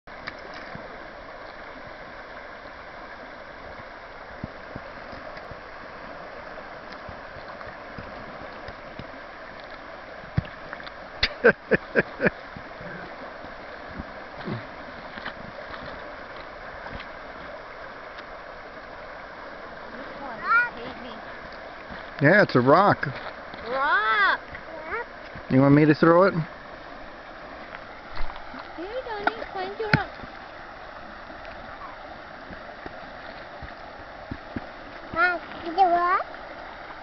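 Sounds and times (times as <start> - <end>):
river rushing over riffle: 0.1 - 37.0.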